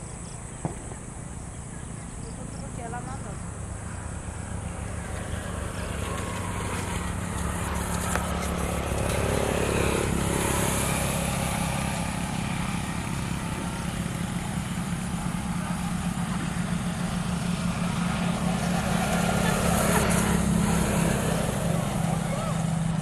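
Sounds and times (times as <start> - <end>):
motorcycle passing: 0.2 - 23.0.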